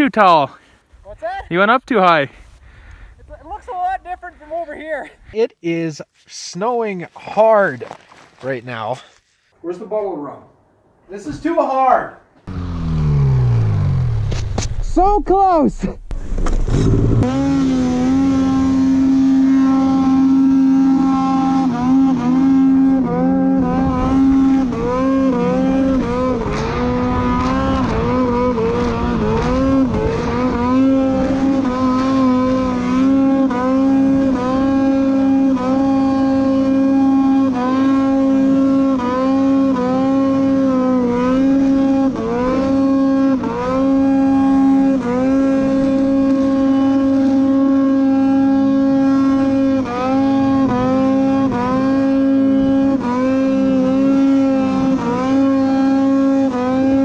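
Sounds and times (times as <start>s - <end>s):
snowmobile engine revving: 0.0s - 4.8s, 11.2s - 57.0s.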